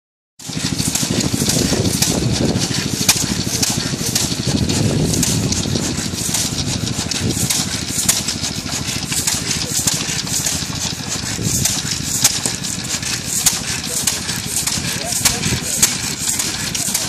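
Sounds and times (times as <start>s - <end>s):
engine running with rapid beat: 0.4s - 17.0s.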